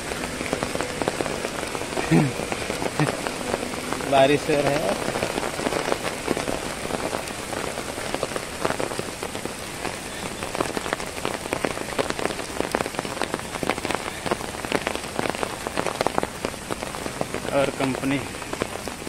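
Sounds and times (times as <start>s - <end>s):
heavy rain on a wet road: 0.0s - 19.0s.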